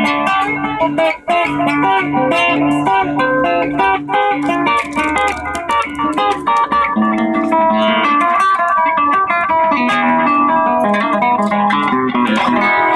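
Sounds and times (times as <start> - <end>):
classical guitar fingerpicking: 0.0 - 12.9.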